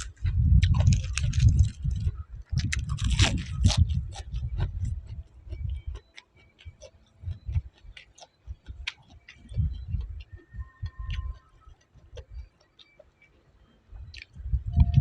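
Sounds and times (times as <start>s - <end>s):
person chewing crunchy food: 0.0s - 15.0s.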